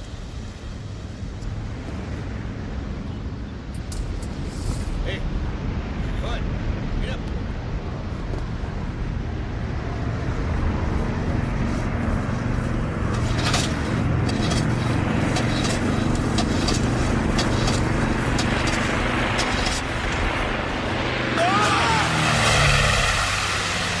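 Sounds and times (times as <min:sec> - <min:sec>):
piston aircraft engines droning: 0:00.0 - 0:24.0.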